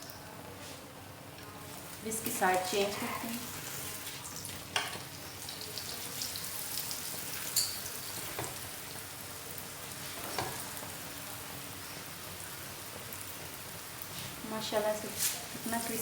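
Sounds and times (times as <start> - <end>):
bread sizzling in fat: 1.6 - 16.0.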